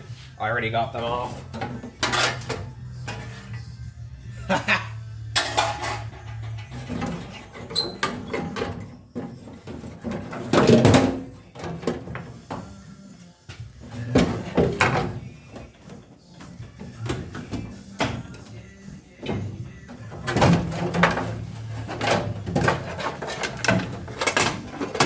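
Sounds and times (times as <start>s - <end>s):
metal clanks and scrapes: 1.0s - 3.8s, 5.2s - 12.6s, 13.8s - 18.6s, 19.2s - 25.0s.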